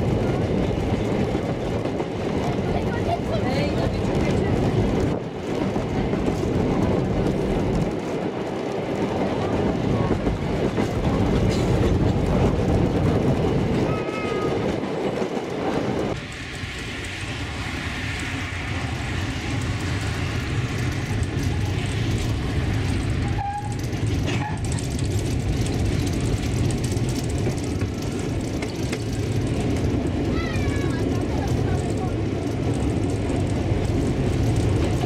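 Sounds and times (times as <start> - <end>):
train rumbling along track: 0.0 - 35.0
wheels clacking over rail joints: 0.0 - 35.0.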